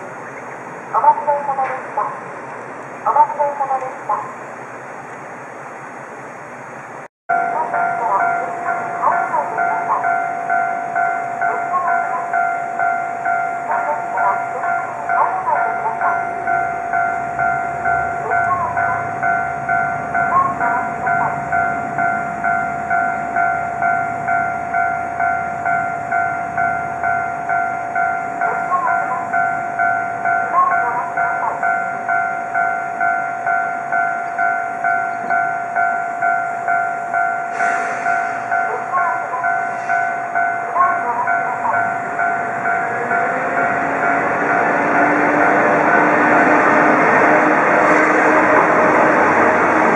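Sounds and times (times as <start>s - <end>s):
train rumbling past: 0.0s - 49.9s
electronic crossing bell ringing: 7.3s - 49.9s.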